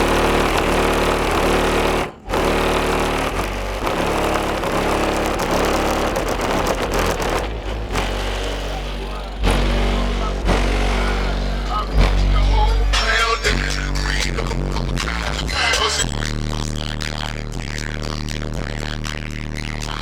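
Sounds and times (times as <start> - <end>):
loud bass-heavy music: 0.0 - 20.0.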